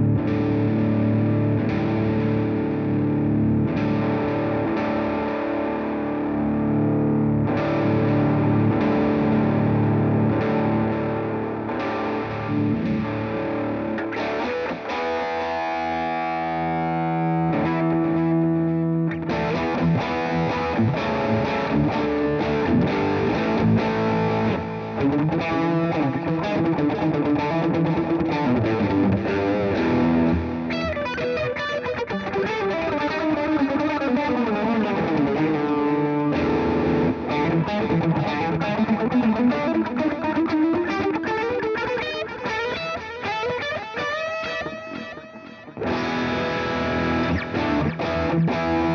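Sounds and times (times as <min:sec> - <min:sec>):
distorted electric guitar: 0:00.0 - 0:48.9.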